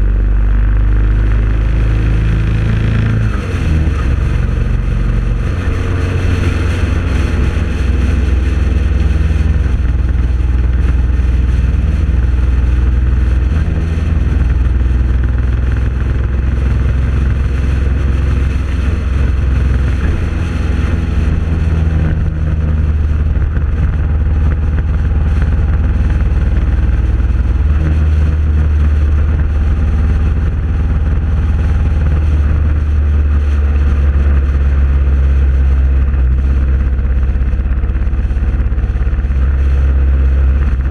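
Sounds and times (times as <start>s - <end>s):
engine drone: 0.0s - 40.9s
wind and road noise: 0.0s - 40.9s.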